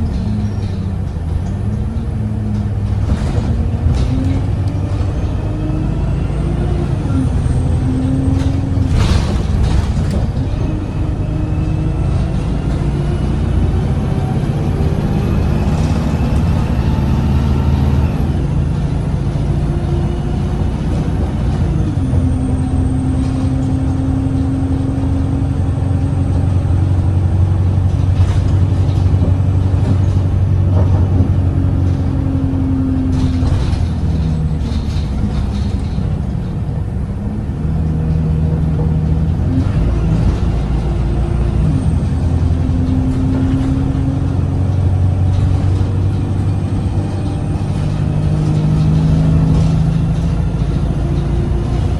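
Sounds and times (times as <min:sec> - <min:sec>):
bus diesel engine droning: 0:00.0 - 0:51.9.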